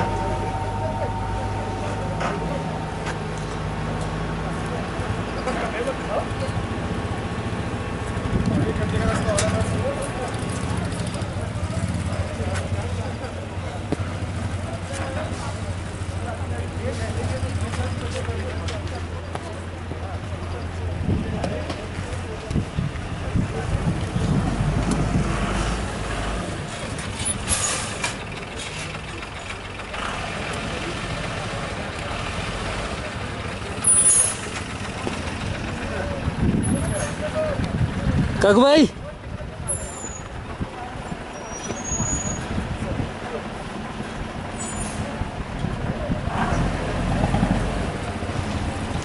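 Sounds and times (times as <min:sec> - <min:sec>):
vehicle engine running: 0:00.0 - 0:41.4
outdoor noise: 0:00.0 - 0:49.0.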